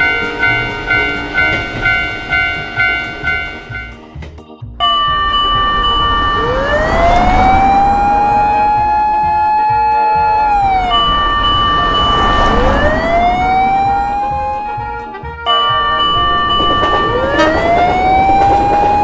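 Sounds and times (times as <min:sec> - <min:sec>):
fire engine siren wailing: 0:00.0 - 0:04.0, 0:04.8 - 0:19.0
steady higher tone: 0:00.0 - 0:04.2, 0:04.8 - 0:19.0
low engine rumble: 0:00.0 - 0:19.0.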